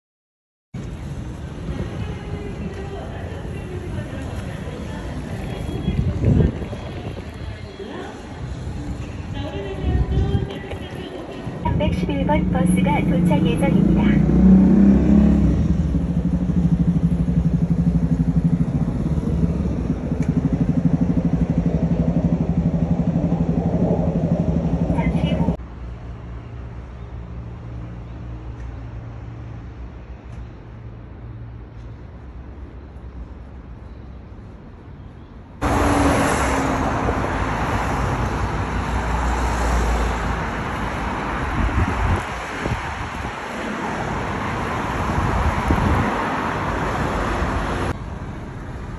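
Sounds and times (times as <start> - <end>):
cars driving past: 0.8 - 32.6, 35.6 - 48.9.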